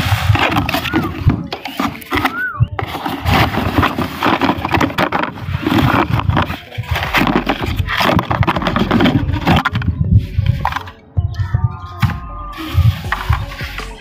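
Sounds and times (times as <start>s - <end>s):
cardboard scraping and rubbing: 0.0s - 14.0s.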